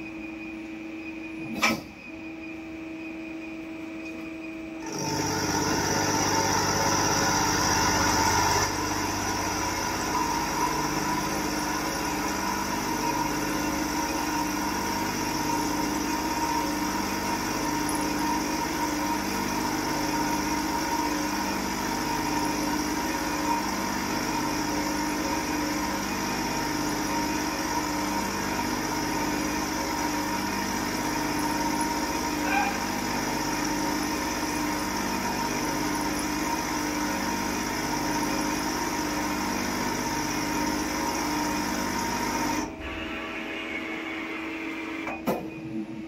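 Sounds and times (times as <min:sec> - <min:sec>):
lathe end mill cutting steel: 0:04.8 - 0:45.0.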